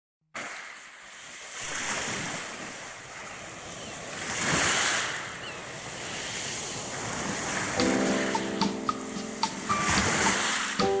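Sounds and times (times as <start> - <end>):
waves washing up a shingle beach: 0.4 - 11.0.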